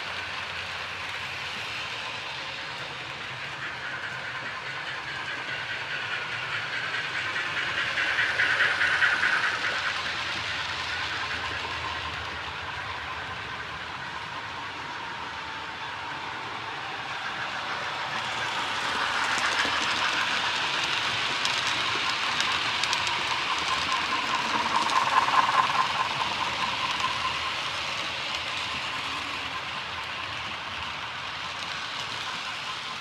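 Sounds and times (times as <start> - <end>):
model train motor hum: 0.0 - 33.0
model train wheels rattling on rail: 0.0 - 33.0.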